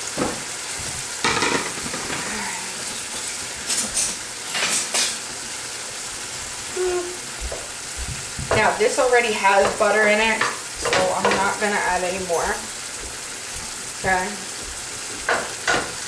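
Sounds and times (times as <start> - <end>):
beef sizzling in a pot: 0.0 - 16.0.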